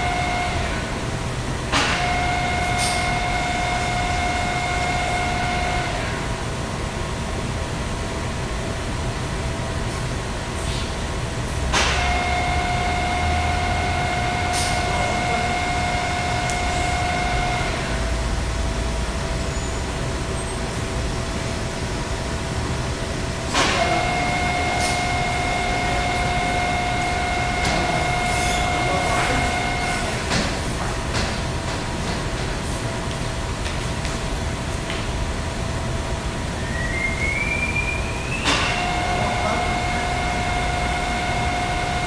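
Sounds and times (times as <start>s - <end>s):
machine whine: 0.0s - 33.6s, 34.2s - 42.0s
machinery rumble: 0.0s - 42.0s.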